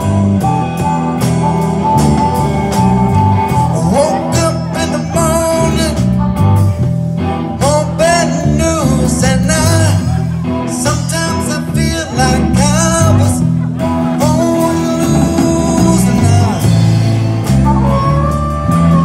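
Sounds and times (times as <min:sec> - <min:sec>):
lead guitar bending notes: 0:00.0 - 0:19.0
live blues-rock band: 0:00.0 - 0:19.0.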